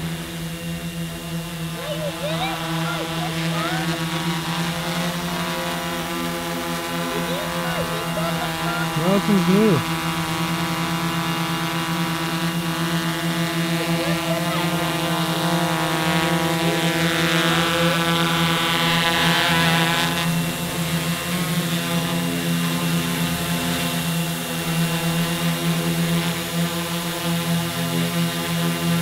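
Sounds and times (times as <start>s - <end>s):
quadcopter drone buzzing: 0.0s - 29.0s.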